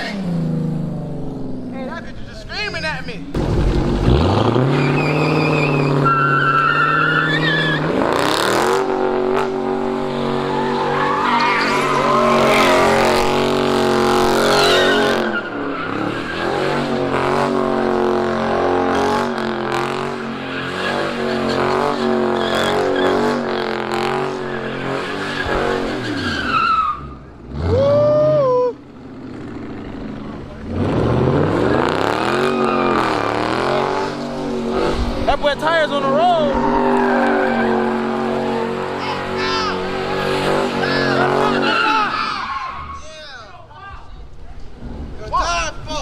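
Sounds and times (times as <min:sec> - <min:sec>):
tires squealing: 0:02.6 - 0:46.0
car engine revving: 0:02.7 - 0:28.3, 0:29.1 - 0:43.0.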